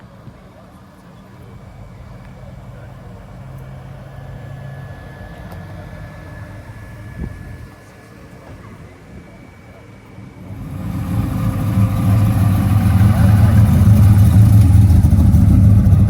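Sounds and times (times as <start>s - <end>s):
car engine running: 1.1s - 16.0s.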